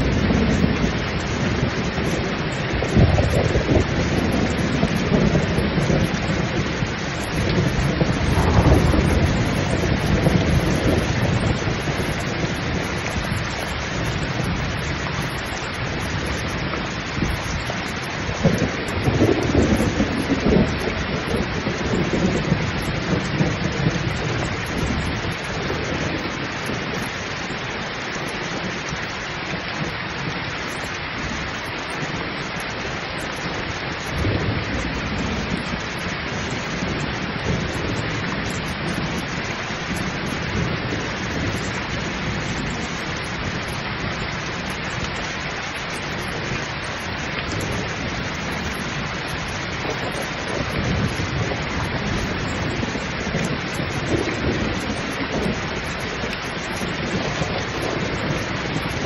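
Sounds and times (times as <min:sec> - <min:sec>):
heavy rain pouring: 0:00.0 - 0:59.0
thunder rumbling: 0:00.0 - 0:59.0.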